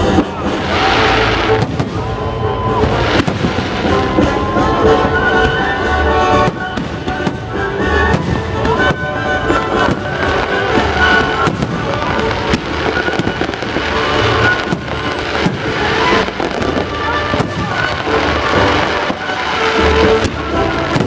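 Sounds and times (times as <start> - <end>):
music playing: 0.0 - 21.0.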